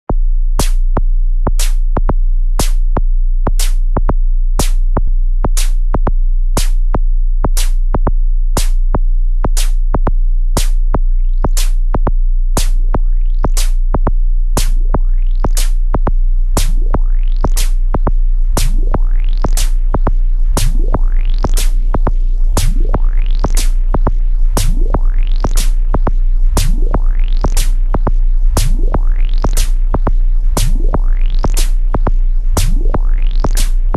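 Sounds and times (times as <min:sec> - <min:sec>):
drum machine hits: 0:00.6 - 0:33.9.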